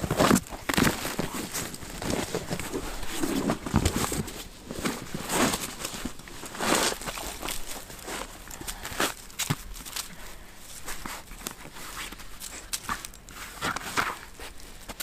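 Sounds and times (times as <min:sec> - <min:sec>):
foam mats rustling: 0:00.0 - 0:15.0.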